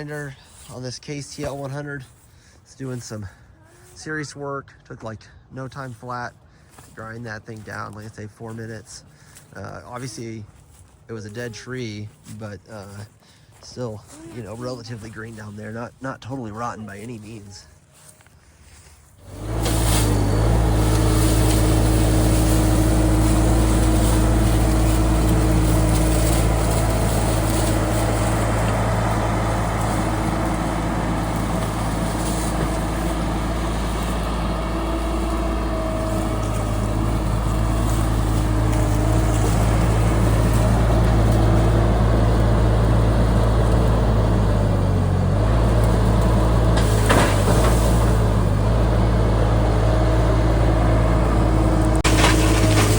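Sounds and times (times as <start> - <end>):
skid steer engine running: 7.8 - 52.9.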